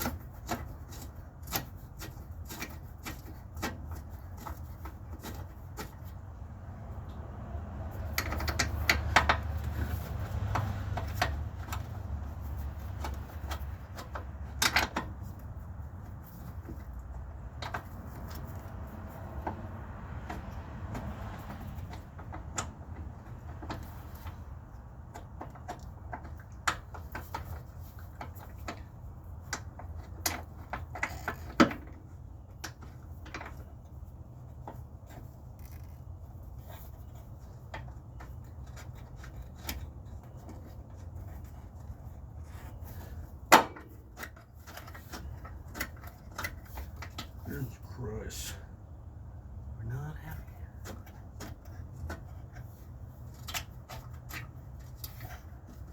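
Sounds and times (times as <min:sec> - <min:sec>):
sharp clicks and knocks: 0:00.0 - 0:07.2, 0:07.8 - 0:47.6, 0:50.2 - 0:55.9.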